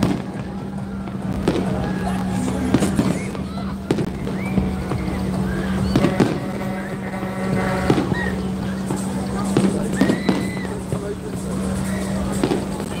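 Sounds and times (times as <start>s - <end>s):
firework shells bursting: 0.0s - 13.0s
firework whistling: 0.0s - 13.0s.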